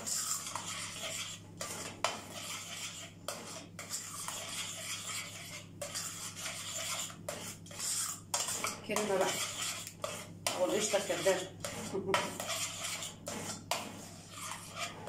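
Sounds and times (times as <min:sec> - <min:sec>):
utensil scraping a metal pot: 0:00.0 - 0:15.0.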